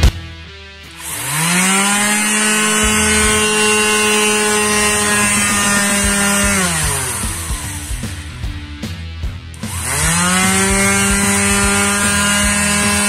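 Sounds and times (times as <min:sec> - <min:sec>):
orbital sander buzzing: 0:00.9 - 0:08.8, 0:09.5 - 0:13.0.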